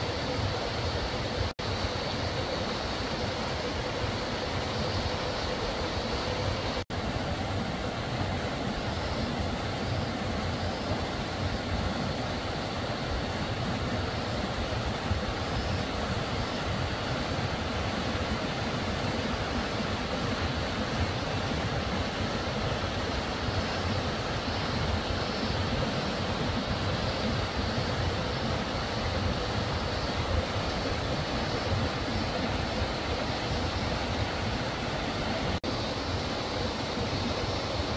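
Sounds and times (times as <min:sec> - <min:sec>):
stream water rushing: 0:00.0 - 0:37.9.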